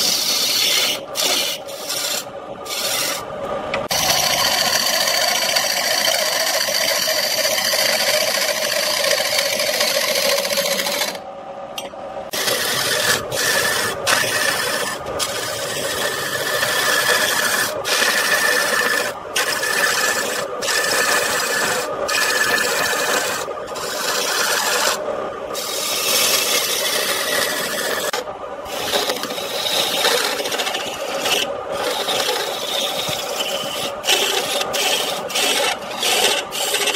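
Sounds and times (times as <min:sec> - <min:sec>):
lathe tool scraping wood: 0:00.0 - 0:11.2, 0:12.3 - 0:36.9.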